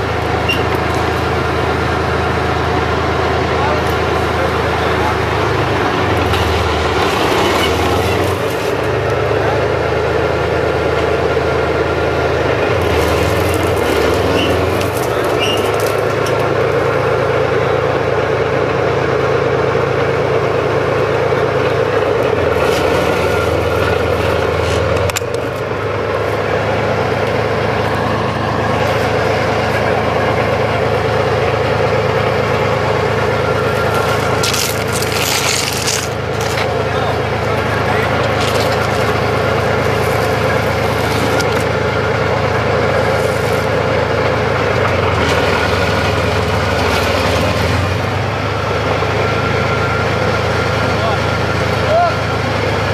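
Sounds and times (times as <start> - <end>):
tank diesel engine running: 0.0 - 52.9.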